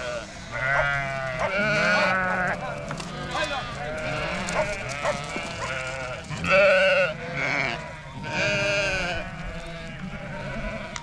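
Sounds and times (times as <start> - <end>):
loud wavering bleats: 0.0 - 11.0
sheep bleating: 0.0 - 11.0.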